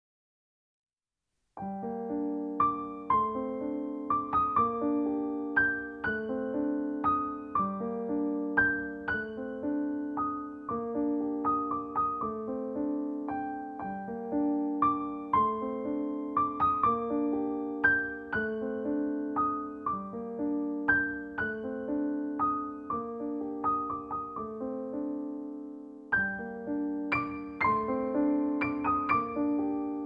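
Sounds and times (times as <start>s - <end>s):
gentle piano piece: 1.6s - 30.0s.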